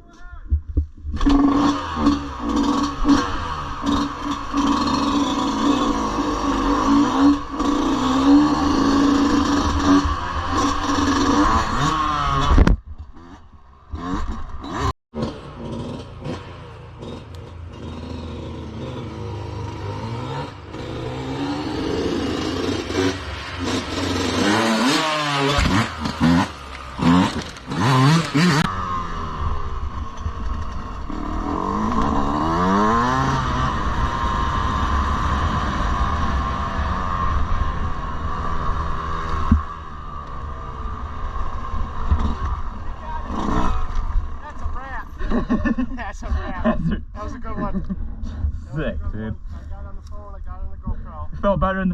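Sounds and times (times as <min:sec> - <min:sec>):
dirt bike engine revving: 0:01.1 - 0:48.5.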